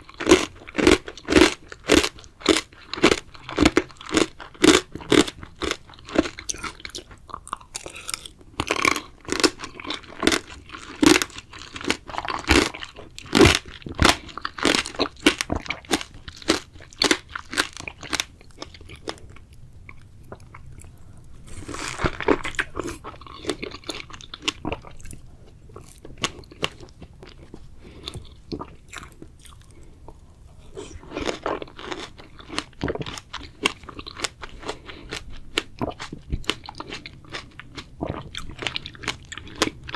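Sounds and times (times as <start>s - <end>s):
chewing and crunching strawberries: 0.0s - 39.9s.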